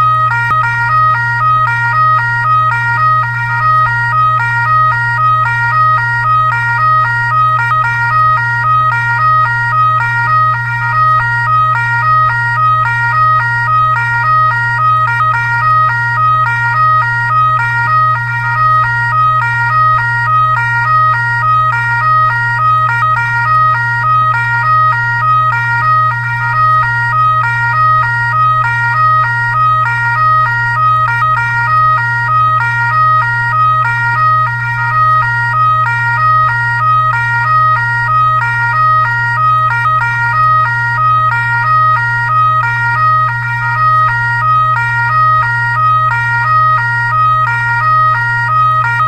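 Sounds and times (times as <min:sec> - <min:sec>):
constant low hum: 0:00.0 - 0:49.0
two-tone fire truck siren: 0:00.0 - 0:49.0.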